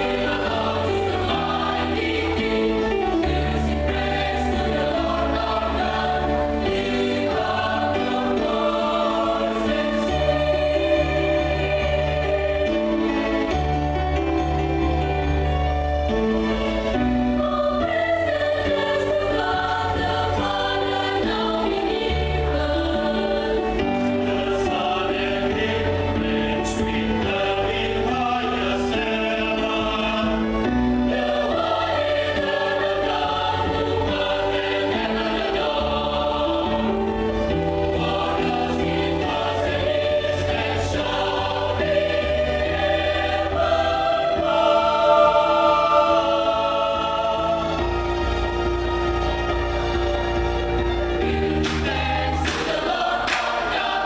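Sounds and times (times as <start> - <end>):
mixed choir singing: 0.0 - 15.2, 16.6 - 54.0.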